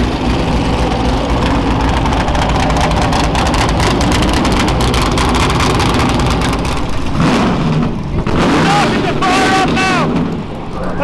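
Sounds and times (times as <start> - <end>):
racing car engine idling: 0.0 - 11.0.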